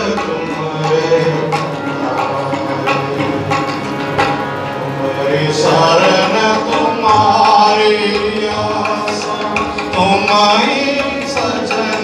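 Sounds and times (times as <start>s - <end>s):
devotional hymn singing: 0.0s - 12.0s
tabla: 0.0s - 12.0s.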